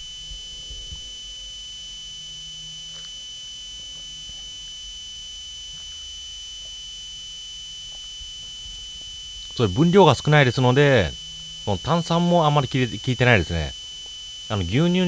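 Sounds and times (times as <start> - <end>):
high-pitched electrical whine: 0.0 - 15.0
low hum: 0.0 - 15.0.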